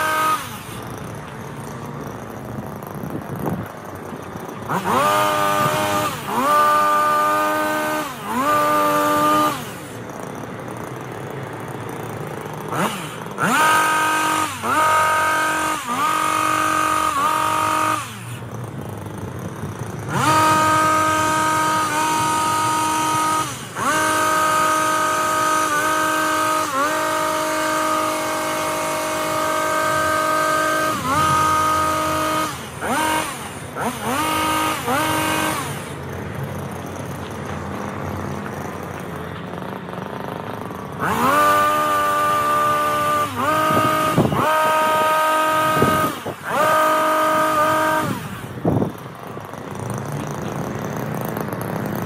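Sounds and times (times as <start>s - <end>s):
hedge trimmer revving: 0.0s - 52.0s.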